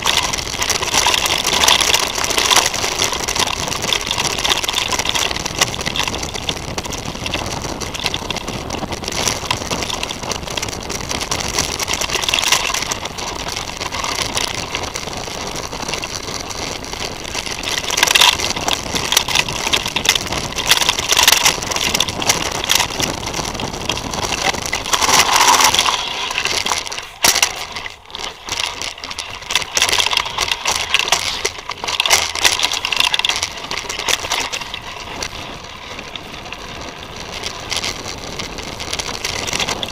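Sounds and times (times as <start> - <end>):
bike rattling and knocking: 0.0 - 39.9
tyre and wind rush: 0.0 - 39.9.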